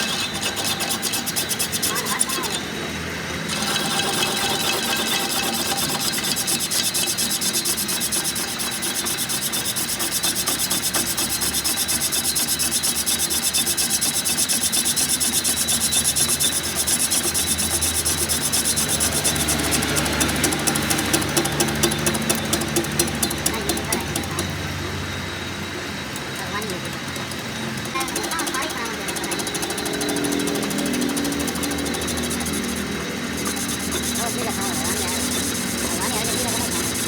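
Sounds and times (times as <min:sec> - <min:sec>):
hand scraping strokes on a part: 0:00.0 - 0:37.0.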